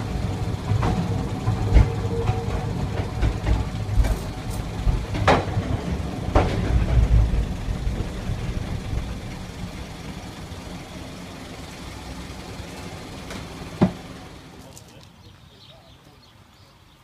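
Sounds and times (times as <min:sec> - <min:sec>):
railcar rumbling on rails: 0:00.0 - 0:14.7.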